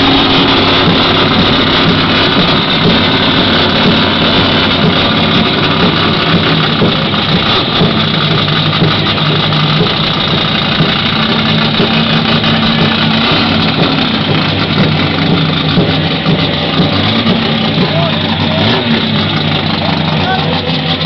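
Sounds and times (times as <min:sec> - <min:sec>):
race car engine idling: 0:00.0 - 0:21.0.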